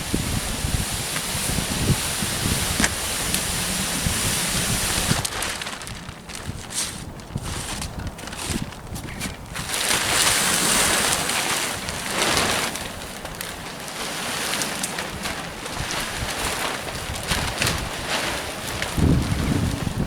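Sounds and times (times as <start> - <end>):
plastic sheeting rustling: 0.0 - 20.0.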